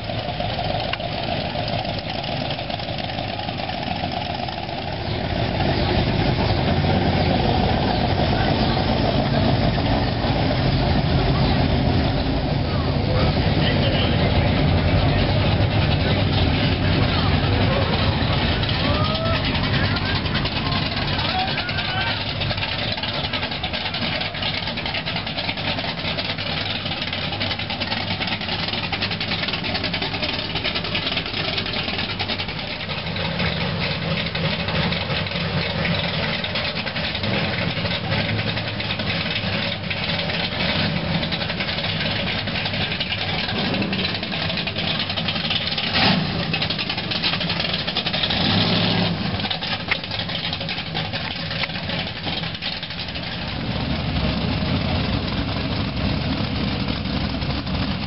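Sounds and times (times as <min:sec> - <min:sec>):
car engines idling: 0:00.0 - 0:58.0.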